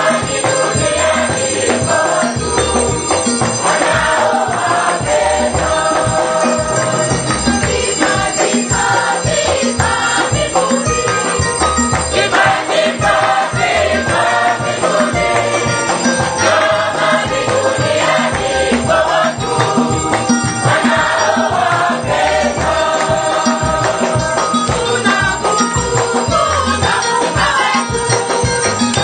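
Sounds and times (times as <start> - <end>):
choir singing: 0.0 - 29.0
steady drum beat: 0.0 - 29.0.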